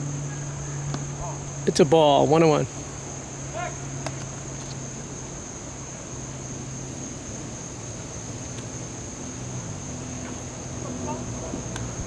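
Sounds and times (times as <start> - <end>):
low engine-like hum: 0.0 - 12.0
soft hiss: 0.0 - 12.0.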